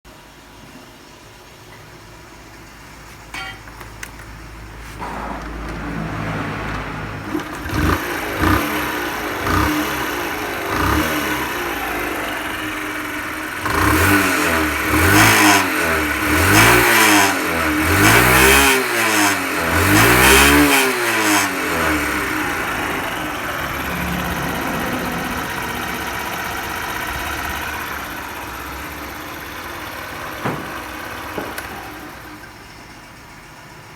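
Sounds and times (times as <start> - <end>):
motorcycle engine revving: 4.8 - 32.5.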